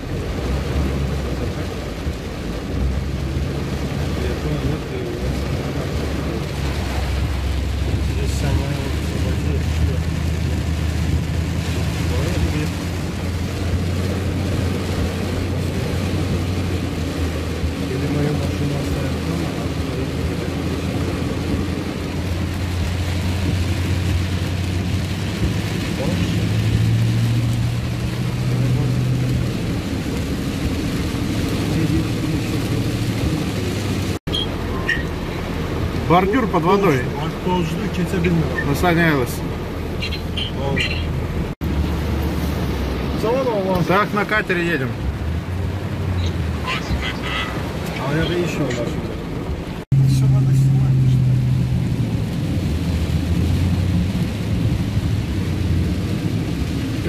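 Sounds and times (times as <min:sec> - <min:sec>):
heavy rain on car roof: 0:00.0 - 0:57.0
tyres hissing on wet road: 0:00.0 - 0:57.0.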